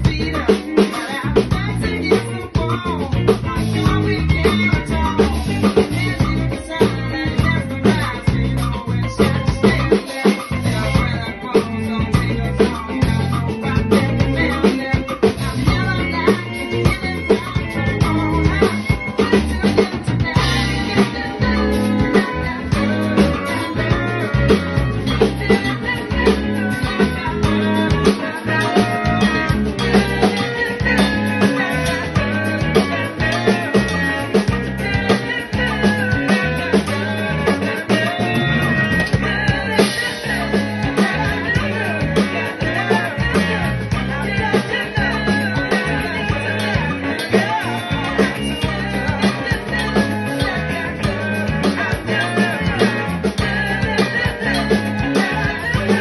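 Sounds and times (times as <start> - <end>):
electric bass line: 0.0 - 56.0
full band with drums: 0.0 - 56.0
person singing: 0.0 - 56.0.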